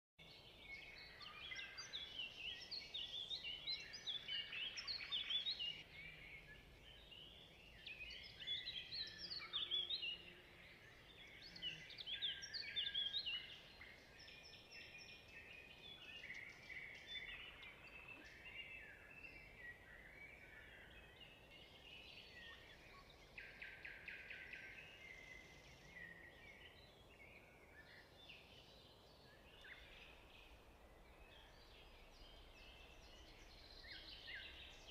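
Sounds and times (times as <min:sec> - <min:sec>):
birds chirping and singing: 0:00.3 - 0:34.9.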